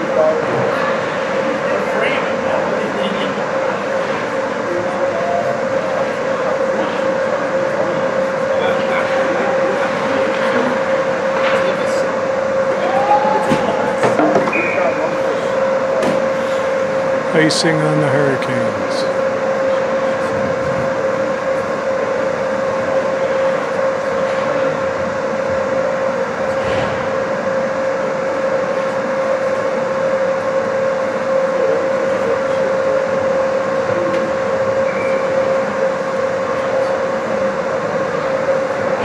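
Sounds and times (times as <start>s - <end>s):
machinery hum: 0.0s - 39.0s.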